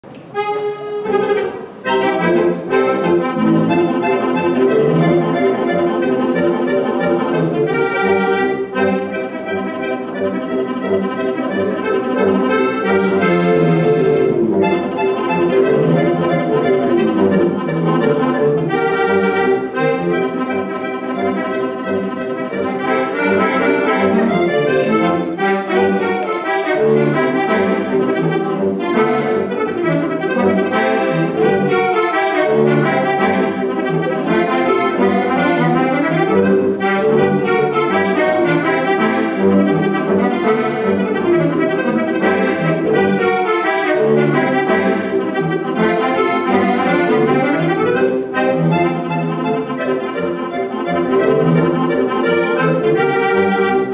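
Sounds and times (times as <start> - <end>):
button accordion folk tune: 0.0 - 53.9.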